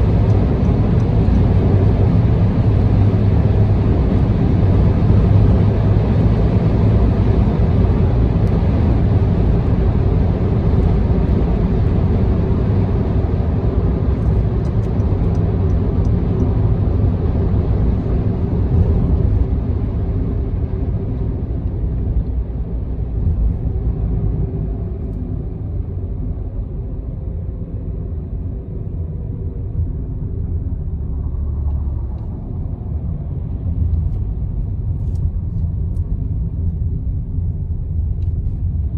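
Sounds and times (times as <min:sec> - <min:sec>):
car engine hum: 0:00.0 - 0:38.9
car tyre road noise: 0:00.0 - 0:38.9.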